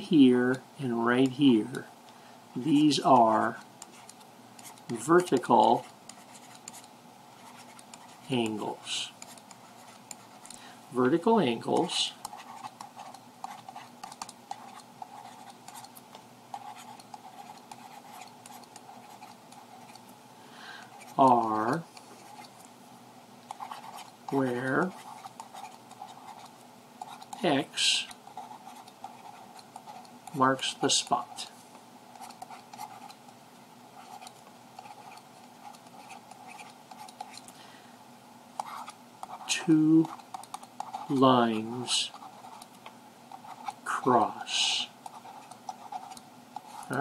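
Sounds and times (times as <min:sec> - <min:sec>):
faint steady hum: 0:00.0 - 0:47.0
stylus scratching and tapping: 0:00.5 - 0:01.9, 0:02.6 - 0:10.6, 0:11.2 - 0:20.1, 0:20.8 - 0:22.7, 0:23.4 - 0:33.4, 0:34.0 - 0:37.5, 0:38.6 - 0:47.0.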